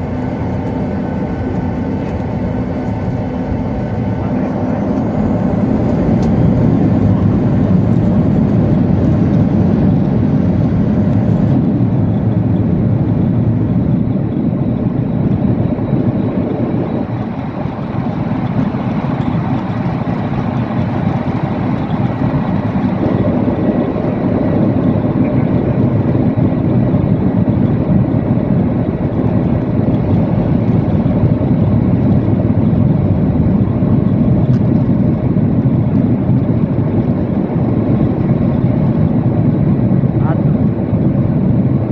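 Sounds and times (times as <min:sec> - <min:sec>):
jet engine rumble in cabin: 0:00.0 - 0:41.9.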